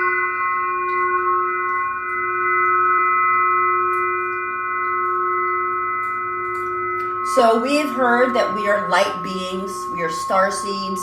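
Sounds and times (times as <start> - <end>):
glass singing pyramid ringing: 0.0 - 11.0.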